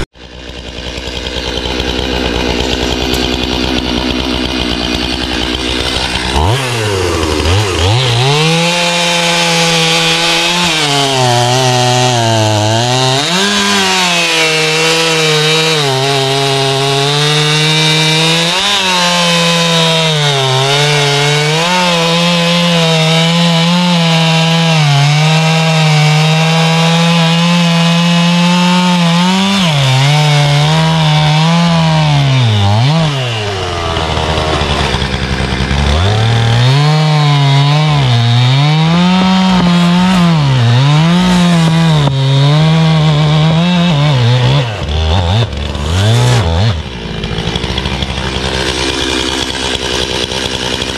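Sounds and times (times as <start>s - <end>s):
chainsaw revving and cutting log: 0.0s - 50.9s.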